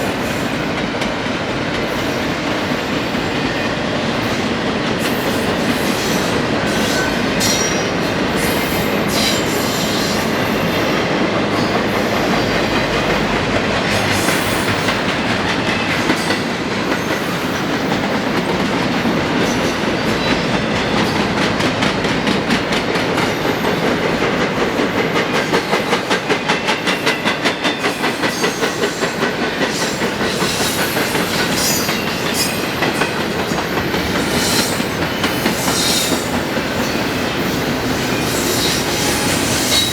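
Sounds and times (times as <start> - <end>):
train wheels rumbling and rattling: 0.0 - 39.9.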